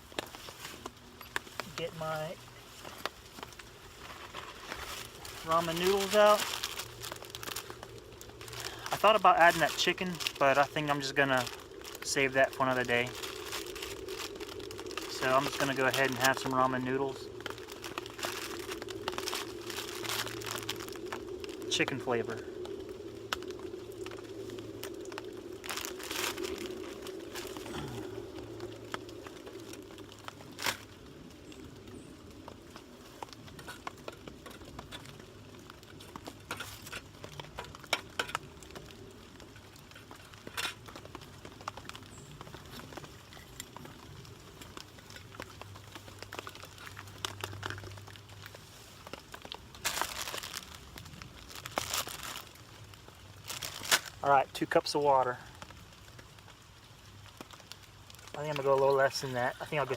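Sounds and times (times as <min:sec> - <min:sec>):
plastic packet crinkling: 0:00.0 - 0:54.4.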